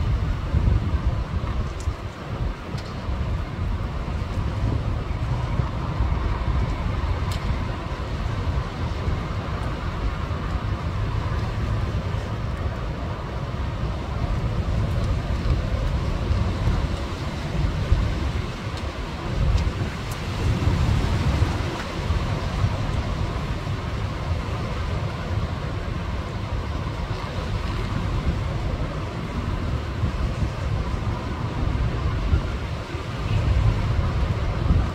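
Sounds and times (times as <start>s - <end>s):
wind gusting over microphone: 0.0s - 34.9s.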